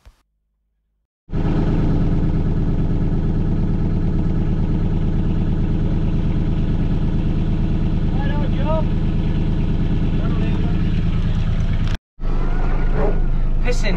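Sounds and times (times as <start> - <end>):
utility vehicle engine running: 1.3 - 13.9.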